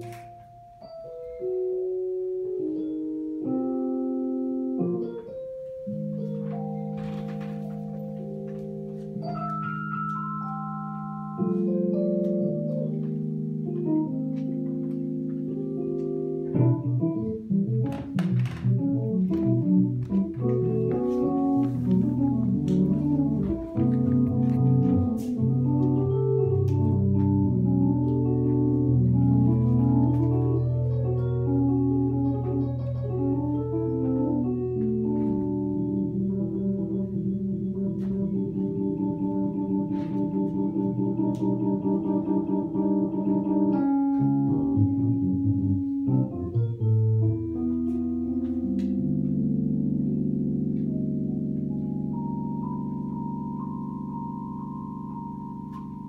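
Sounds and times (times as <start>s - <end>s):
organ-like keyboard chords: 0.0s - 56.0s.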